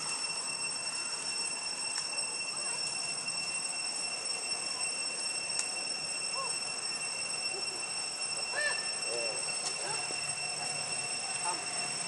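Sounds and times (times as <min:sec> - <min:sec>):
background hiss: 0:00.0 - 0:12.0
faint rising-and-falling calls: 0:00.0 - 0:12.0
high-pitched insect drone: 0:00.0 - 0:12.0.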